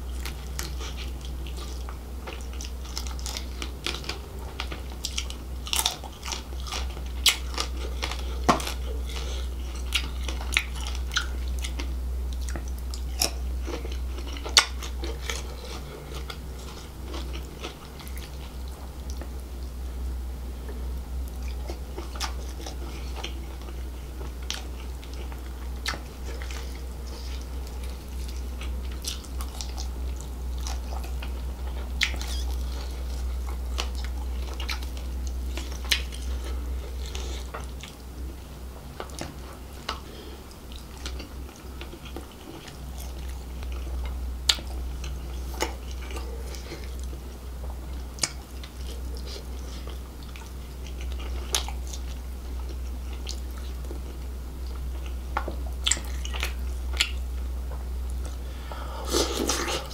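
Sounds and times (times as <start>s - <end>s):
close chewing and crunching: 0.0s - 19.7s, 20.6s - 59.9s
steady low hum: 0.0s - 59.9s.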